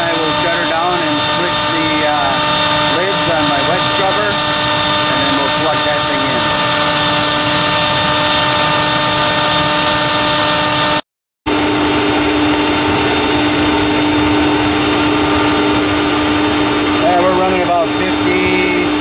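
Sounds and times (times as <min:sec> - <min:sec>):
mechanical whine: 0:00.0 - 0:19.0.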